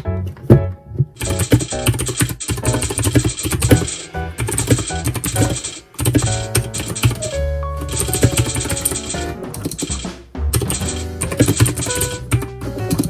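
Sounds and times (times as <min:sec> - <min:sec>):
background music: 0:00.0 - 0:13.0
fast typing on mechanical keyboard: 0:01.2 - 0:13.0.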